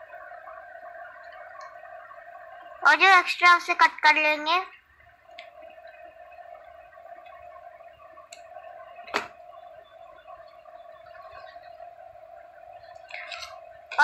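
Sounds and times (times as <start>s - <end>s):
steady faint hum: 0.0s - 14.0s
faint clicks: 0.2s - 2.7s, 5.2s - 14.0s.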